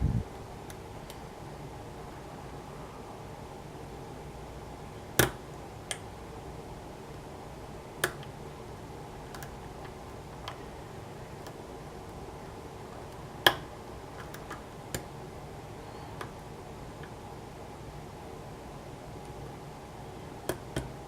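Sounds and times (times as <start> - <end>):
low background hiss: 0.0 - 21.0.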